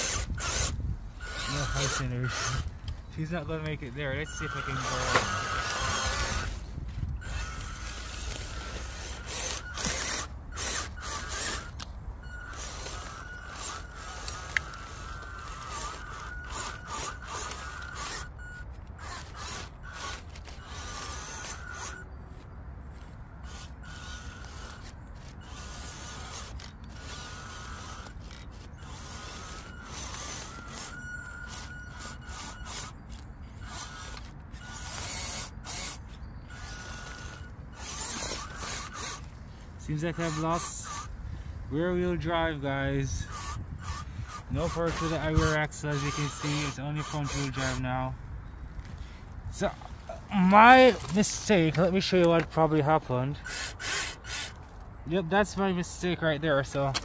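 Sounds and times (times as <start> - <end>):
toy truck electric motor whining: 0.0 - 57.0.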